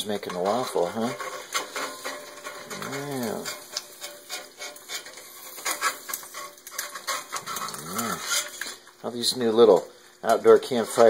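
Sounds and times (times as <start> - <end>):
metal spatula scraping skillet: 0.0 - 11.0.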